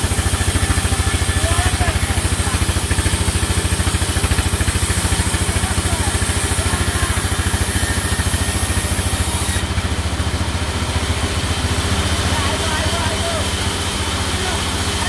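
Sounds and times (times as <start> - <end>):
sawmill engine running steadily: 0.0 - 15.0.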